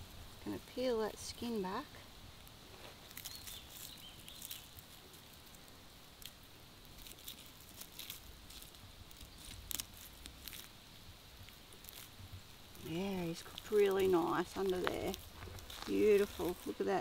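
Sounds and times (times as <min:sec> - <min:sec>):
crackling and scraping of fish skin: 0:02.4 - 0:17.0.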